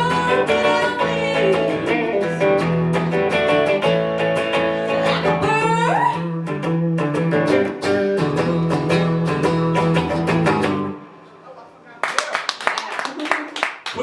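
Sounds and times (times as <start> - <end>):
guitar playing: 0.0 - 11.4.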